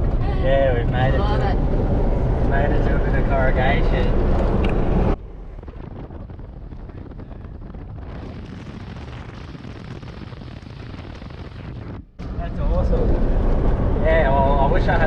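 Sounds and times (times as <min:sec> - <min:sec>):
vehicle rumbling over dirt road: 0:00.0 - 0:15.0.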